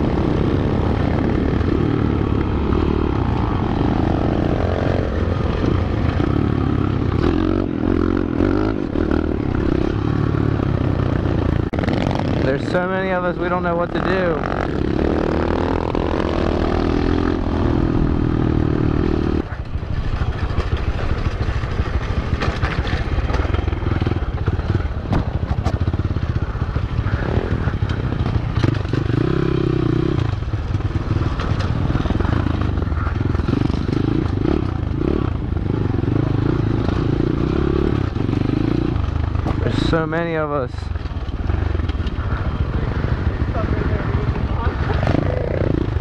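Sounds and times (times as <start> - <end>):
pit bike engine revving: 0.0 - 19.5, 25.6 - 46.0.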